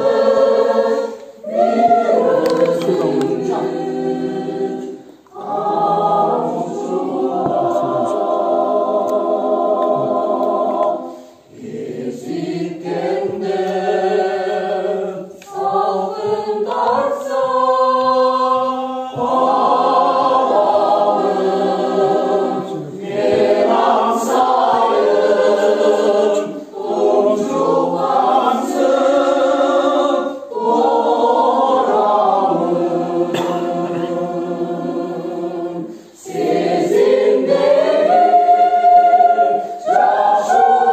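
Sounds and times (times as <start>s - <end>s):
mixed choir singing in harmony: 0.0s - 40.9s.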